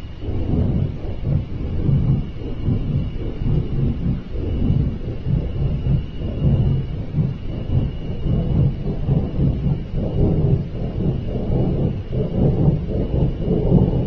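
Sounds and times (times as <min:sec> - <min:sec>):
deep continuous rumble: 0:00.0 - 0:14.0.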